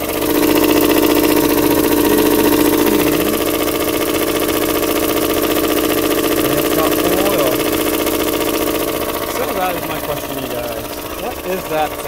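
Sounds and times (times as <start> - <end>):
car engine idling: 0.0 - 12.0
weird little engine noise: 0.0 - 12.0.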